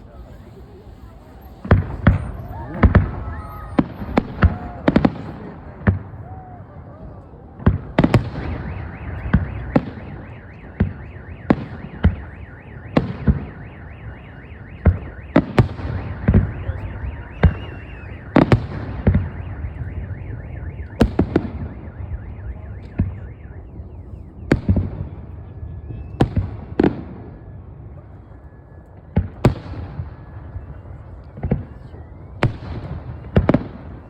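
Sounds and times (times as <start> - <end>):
fireworks bangs: 0.0 - 28.3, 29.0 - 34.0
distant explosions rumble: 0.0 - 34.0.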